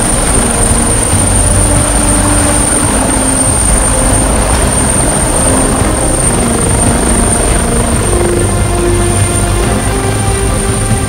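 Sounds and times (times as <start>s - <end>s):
helicopter rotor beat: 0.0s - 11.0s
high-pitched turbine whine: 0.0s - 11.0s.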